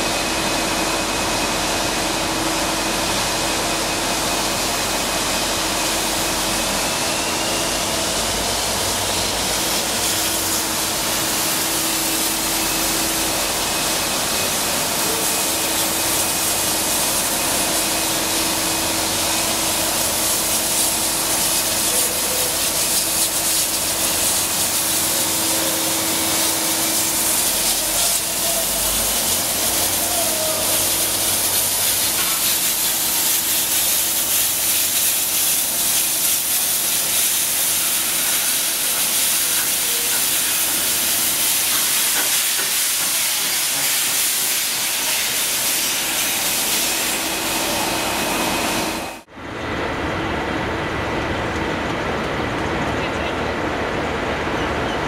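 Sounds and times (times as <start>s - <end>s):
steam locomotive hissing: 0.0s - 49.3s.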